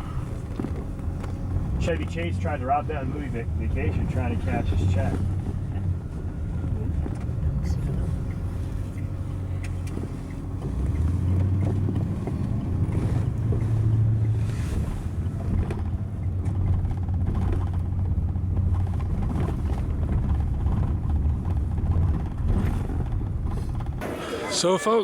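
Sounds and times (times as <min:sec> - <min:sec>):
van engine and road drone: 0:00.0 - 0:24.8.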